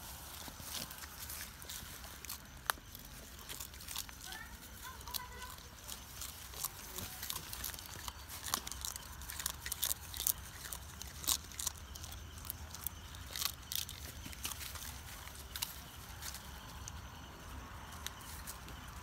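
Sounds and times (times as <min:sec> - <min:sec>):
goat chewing a leaf: 0:00.0 - 0:19.0.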